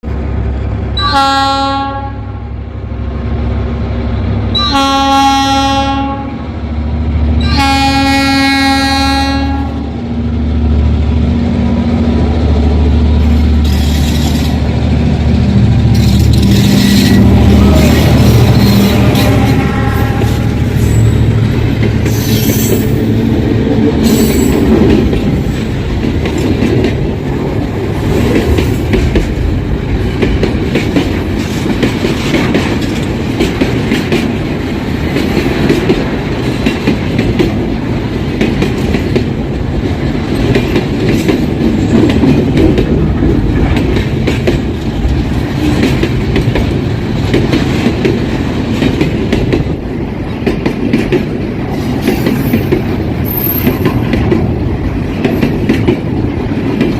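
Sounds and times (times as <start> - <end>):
freight train rumble: 0.0 - 56.9
wheels clacking over rail joints: 11.2 - 56.9.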